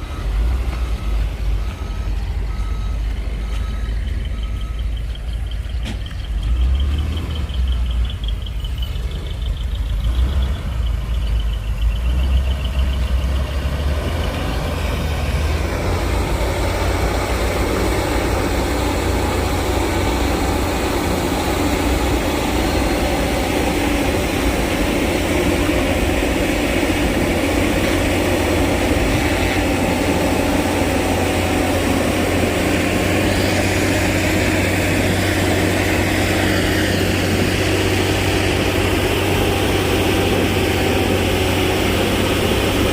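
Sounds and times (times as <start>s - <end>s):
heavy diesel machine rumble: 0.0s - 42.9s.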